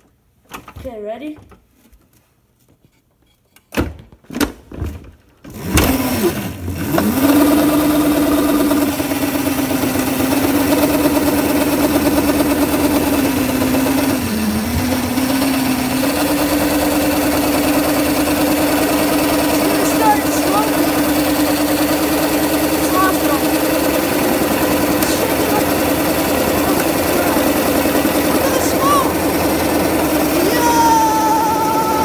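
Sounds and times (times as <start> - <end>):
electric motor whine: 5.7 - 32.0.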